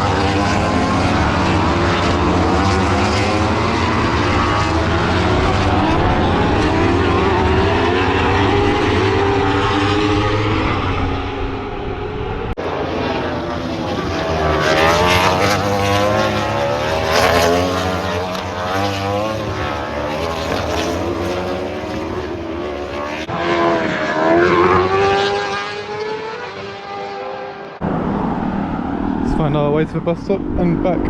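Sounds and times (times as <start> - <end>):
racing motorcycles passing at speed: 0.0 - 31.0.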